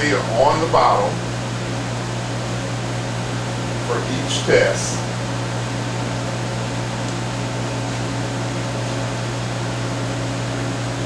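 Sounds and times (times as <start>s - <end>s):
machines humming with hiss: 0.0s - 11.0s.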